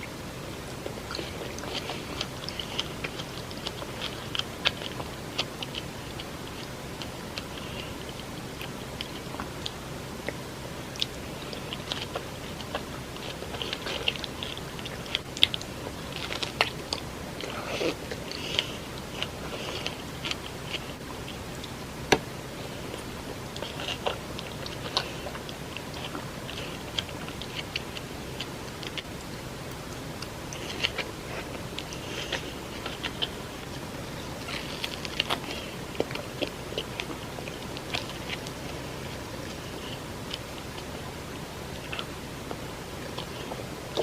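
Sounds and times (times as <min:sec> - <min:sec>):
wet chewing: 0:00.0 - 0:44.0.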